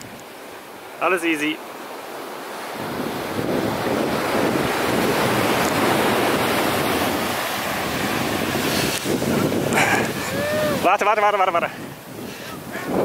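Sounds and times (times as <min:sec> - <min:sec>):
surf washing up a beach: 0:00.0 - 0:13.0
wind buffeting the microphone: 0:02.3 - 0:13.0.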